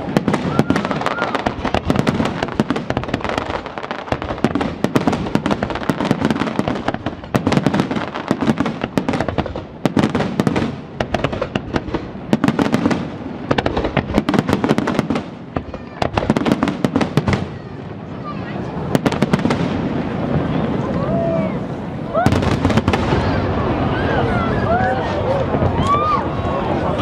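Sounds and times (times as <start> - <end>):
fireworks crackling pops: 0.0 - 18.1, 18.8 - 21.3, 22.1 - 23.6.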